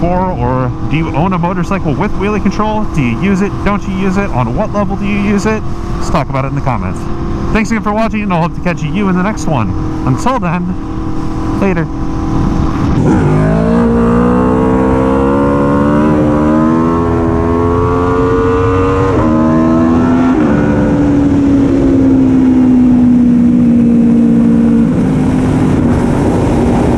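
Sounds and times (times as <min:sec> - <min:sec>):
motorcycle engine accelerating: 0:00.0 - 0:26.9
road and wind noise: 0:00.0 - 0:26.9.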